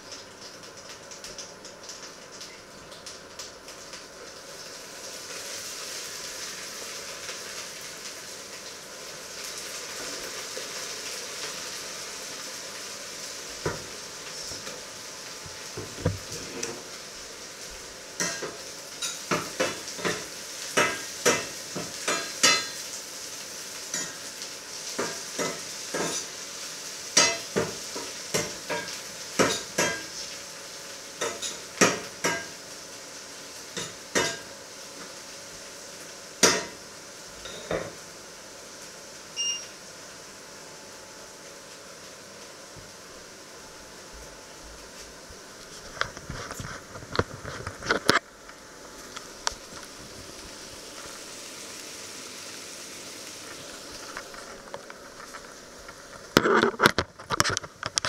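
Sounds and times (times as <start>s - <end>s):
eggs sizzling in a frying pan: 0.0s - 58.0s.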